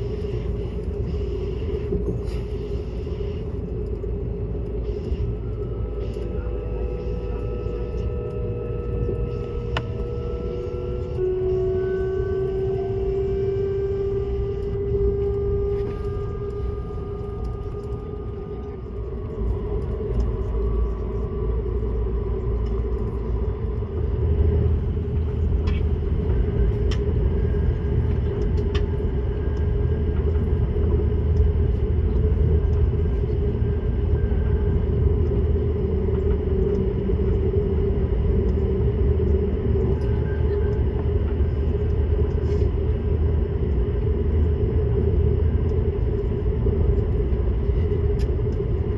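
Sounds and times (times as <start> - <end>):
train running at speed: 0.0 - 48.9.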